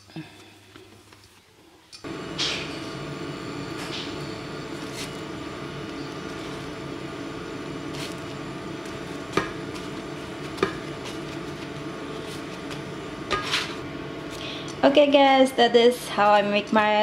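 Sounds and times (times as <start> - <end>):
steady low hum: 2.0 - 17.0.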